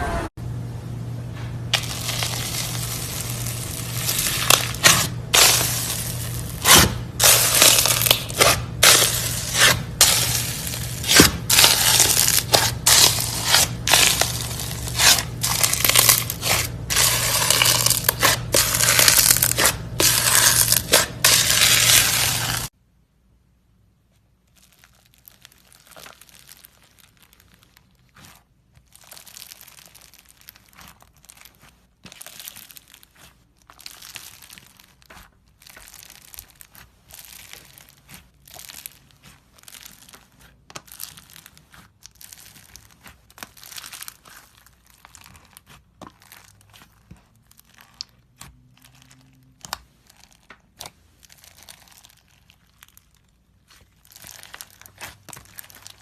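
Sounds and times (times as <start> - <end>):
slime squeezed crackling and popping: 1.7 - 22.7, 24.3 - 56.0.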